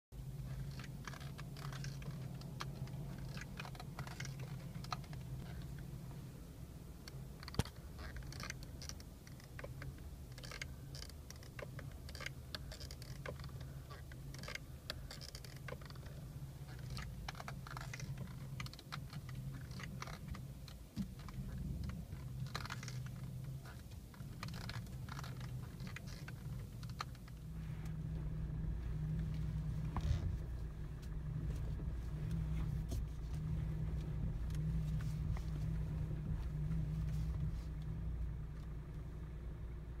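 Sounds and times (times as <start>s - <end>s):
steering column creaks and clicks: 0.2s - 6.2s, 6.8s - 39.2s
car engine idling: 0.2s - 40.0s.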